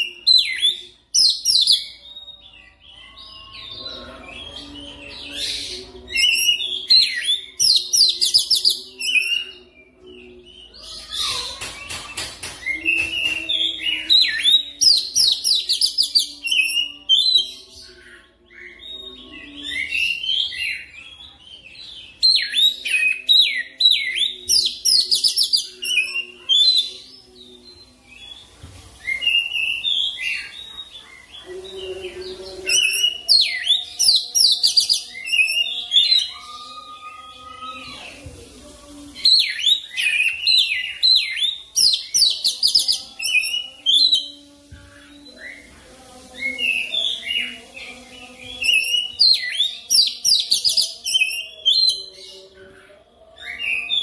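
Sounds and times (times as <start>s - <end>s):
bird song whistles and trills: 0.0s - 38.2s, 39.1s - 52.7s.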